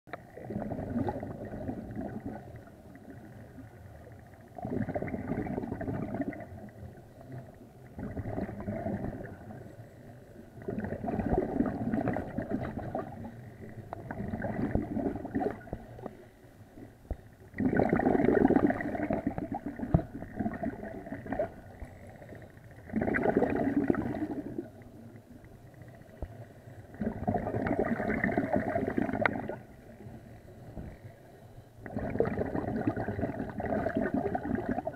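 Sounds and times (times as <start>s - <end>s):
exhaled bubbles bubbling: 0.1s - 30.9s, 31.8s - 34.9s.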